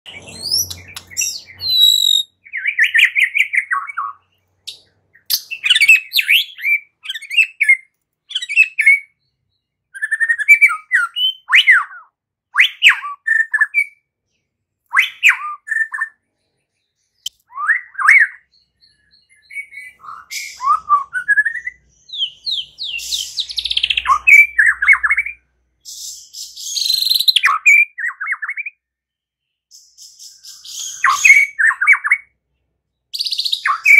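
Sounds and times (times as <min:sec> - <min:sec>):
bird singing whistles and trills: 0:00.1 - 0:14.1, 0:14.9 - 0:29.0, 0:29.7 - 0:32.4, 0:33.0 - 0:33.9.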